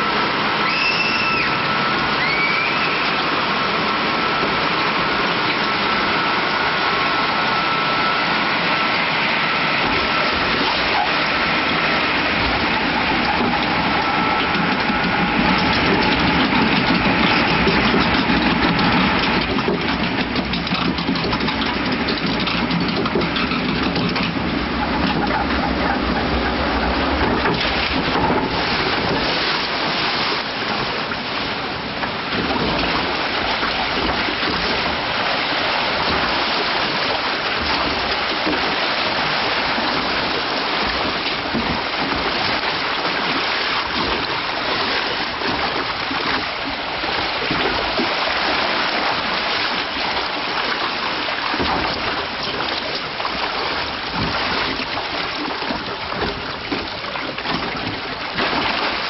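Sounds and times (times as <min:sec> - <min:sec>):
water rushing in flume channel: 0:00.0 - 0:59.0.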